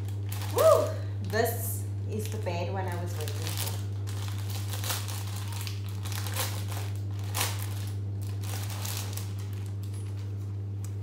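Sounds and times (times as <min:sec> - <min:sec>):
plastic packaging crinkling: 0:00.0 - 0:11.0
steady low hum: 0:00.0 - 0:11.0.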